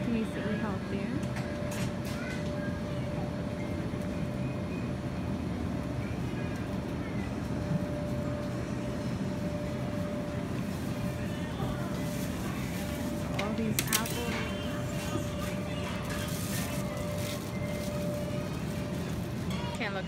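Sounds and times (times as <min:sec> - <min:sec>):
faint voices: 0:00.0 - 0:20.0.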